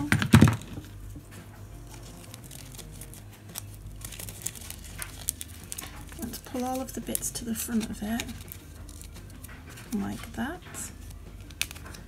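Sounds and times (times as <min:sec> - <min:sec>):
glitter sheet rustling and crackling: 0:00.0 - 0:12.0.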